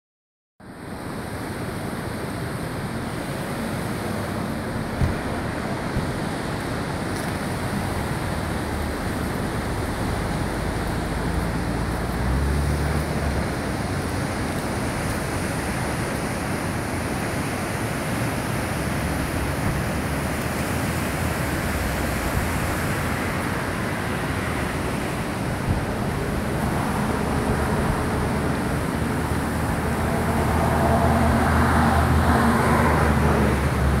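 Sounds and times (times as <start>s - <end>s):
road traffic hum: 0.6s - 34.0s
surf breaking and washing in: 0.7s - 34.0s
wind on microphone: 4.5s - 34.0s.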